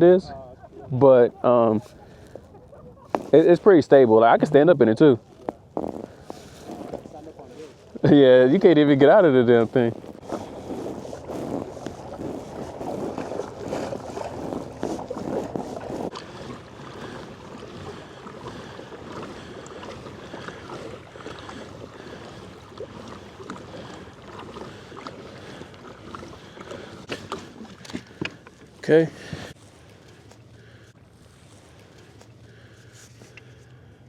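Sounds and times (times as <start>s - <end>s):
water lapping around kayak hull: 0.0s - 34.0s.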